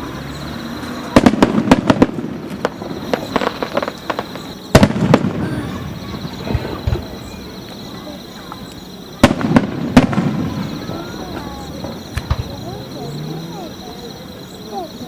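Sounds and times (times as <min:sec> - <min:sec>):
firework bangs: 0:00.0 - 0:15.0
crackling firework pops: 0:00.6 - 0:12.9.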